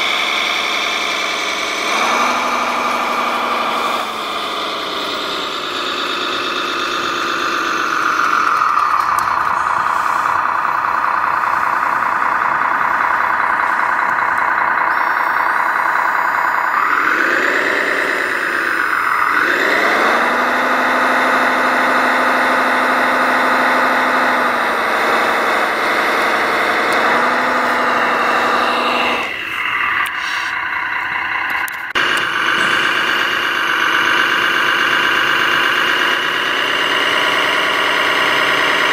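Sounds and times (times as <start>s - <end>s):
model crane mechanical whine: 0.0s - 38.9s.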